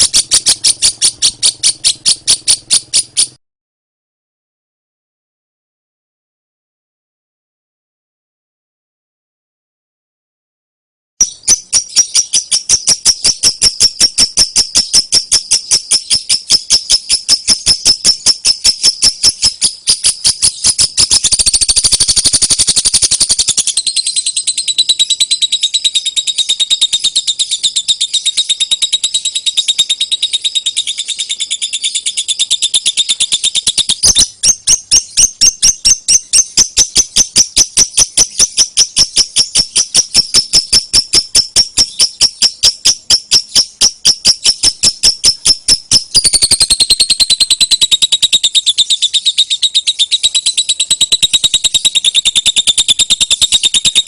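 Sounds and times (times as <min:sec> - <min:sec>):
lovebird chattering trill: 0:00.0 - 0:03.4, 0:11.2 - 0:54.0.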